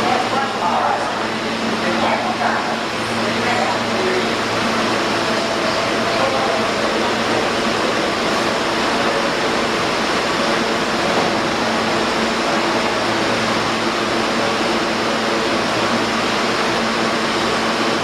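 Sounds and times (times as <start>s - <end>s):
subway train rushing noise: 0.0s - 18.0s.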